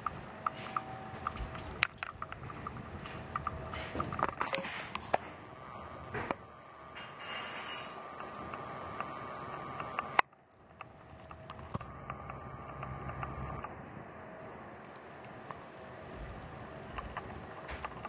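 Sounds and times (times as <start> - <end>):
fire hissing: 0.0 - 18.0
logs crackling in a fire: 0.0 - 18.0.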